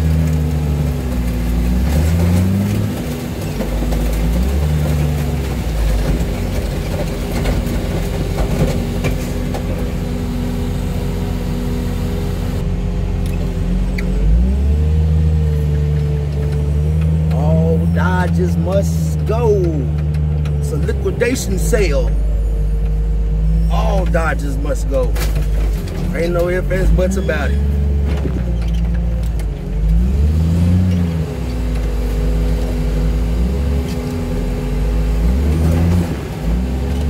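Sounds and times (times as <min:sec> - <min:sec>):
diesel engine revving: 0:00.0 - 0:37.0.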